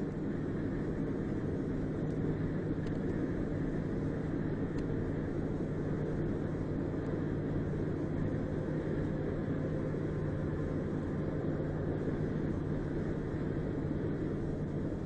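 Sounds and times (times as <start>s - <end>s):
car cabin road and engine noise: 0.0s - 15.0s
constant low hum: 0.0s - 15.0s.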